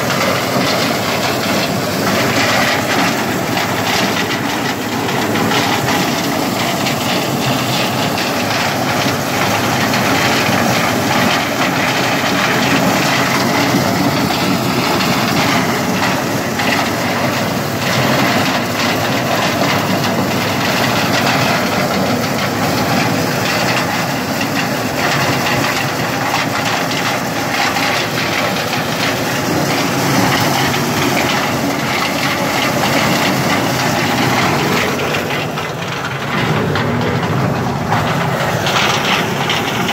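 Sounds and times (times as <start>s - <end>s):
maize sheller engine running: 0.0s - 39.9s.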